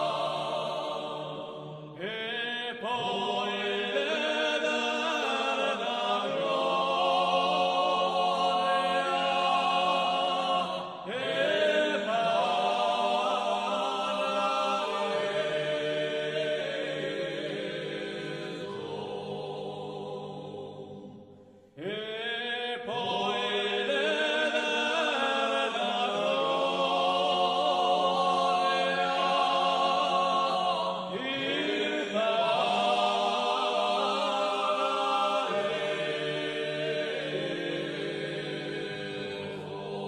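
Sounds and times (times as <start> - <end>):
voices chanting in harmony: 0.0 - 40.0.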